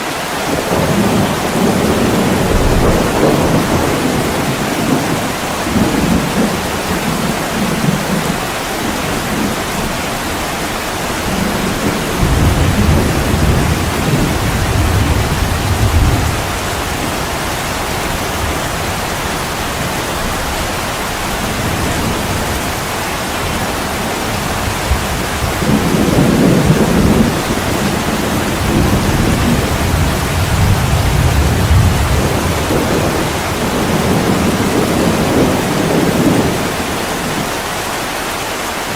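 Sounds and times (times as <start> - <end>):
thunder rumbling: 0.0 - 37.7
heavy rain on a window: 0.0 - 38.9.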